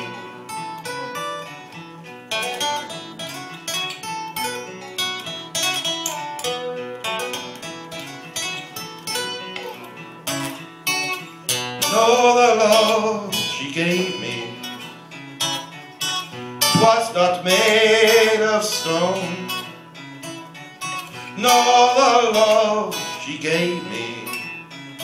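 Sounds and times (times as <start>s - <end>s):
acoustic guitar picking and strumming: 0.0s - 25.0s.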